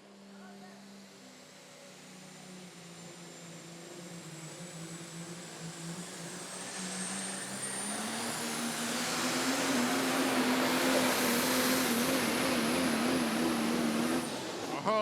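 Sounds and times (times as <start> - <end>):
diesel truck engine running hard: 2.7 - 15.0.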